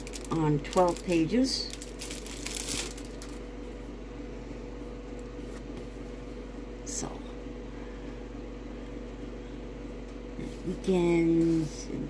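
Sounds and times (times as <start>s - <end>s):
electrical appliance hum: 0.0s - 12.0s.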